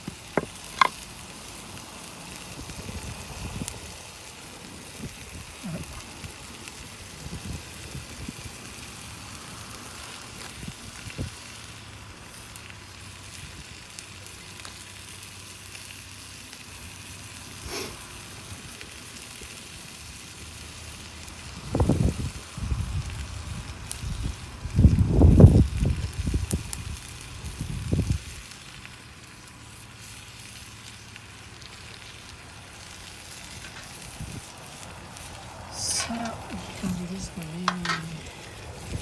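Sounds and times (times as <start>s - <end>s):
campfire crackling: 0.0s - 39.0s
fire popping: 0.0s - 39.0s.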